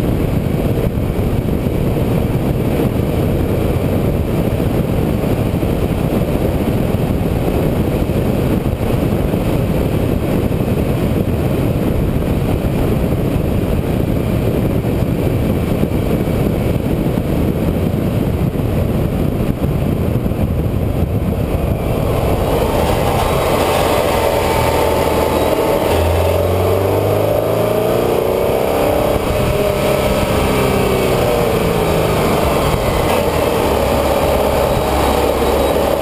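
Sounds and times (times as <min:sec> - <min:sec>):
vehicle driving on road: 0:00.0 - 0:36.0.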